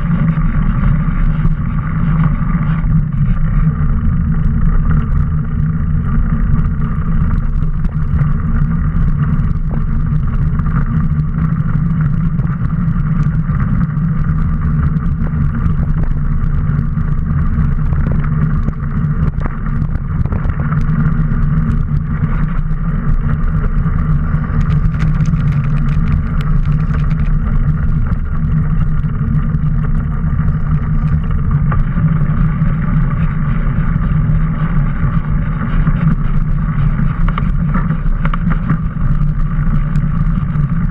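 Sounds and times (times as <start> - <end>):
bike clicks and rattles: 0.0 - 40.9
wind rumble: 0.0 - 40.9.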